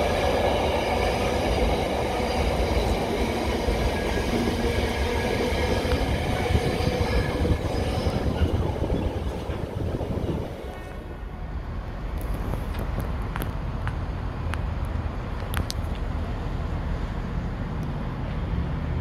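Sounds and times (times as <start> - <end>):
freight train wagons rumbling past: 0.0 - 19.0.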